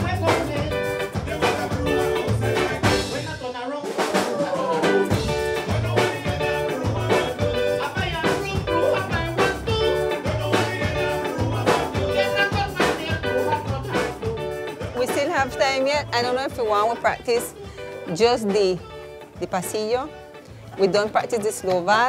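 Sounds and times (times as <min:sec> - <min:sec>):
bass: 0:00.0 - 0:03.4, 0:04.6 - 0:22.0
electric guitar: 0:00.0 - 0:03.5, 0:04.1 - 0:22.0
drums: 0:00.0 - 0:22.0.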